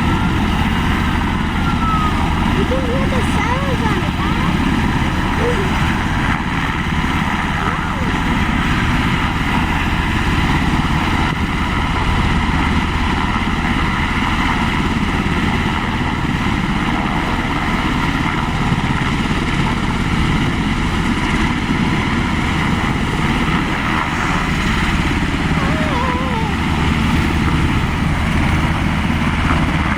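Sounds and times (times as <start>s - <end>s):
helicopter turbine and rotor: 0.0s - 29.9s.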